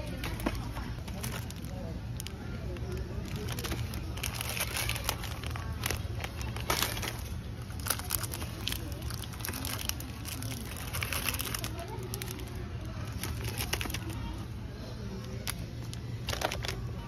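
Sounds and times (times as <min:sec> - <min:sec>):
plastic wrappers crinkling: 0:00.0 - 0:17.0
steady low hum: 0:00.0 - 0:17.0.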